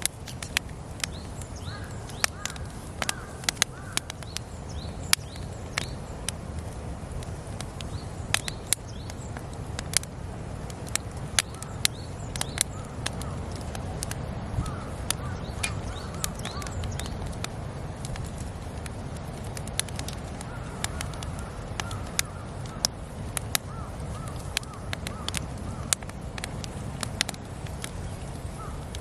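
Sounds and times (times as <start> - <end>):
birds calling faintly: 0.0 - 29.0
campfire crackling and popping: 0.0 - 29.0.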